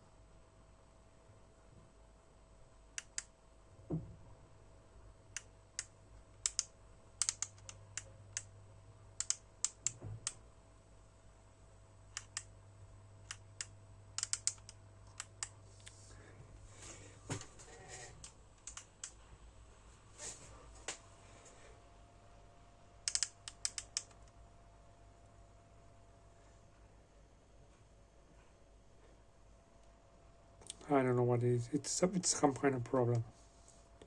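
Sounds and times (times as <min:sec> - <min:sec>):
faint electrical hum: 0:00.0 - 0:34.0.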